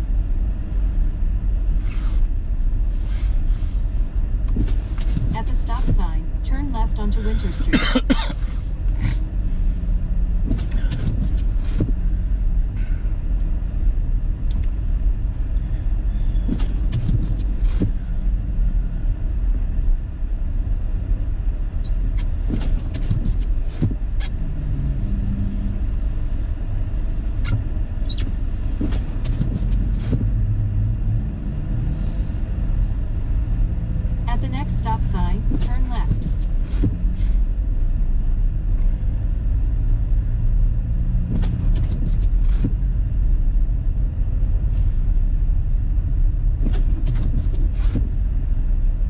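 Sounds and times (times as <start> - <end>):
engine and tyre rumble: 0.0 - 49.0.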